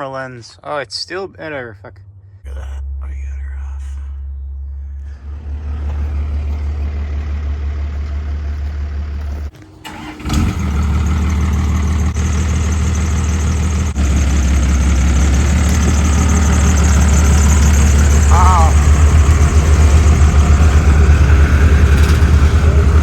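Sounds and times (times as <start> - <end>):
engine idling: 2.1 - 23.0.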